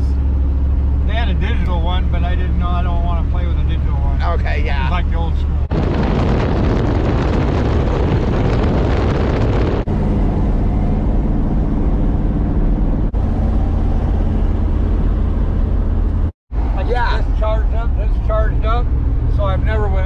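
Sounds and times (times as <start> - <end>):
engine hum: 0.0 - 20.0
road noise rush: 0.0 - 20.0.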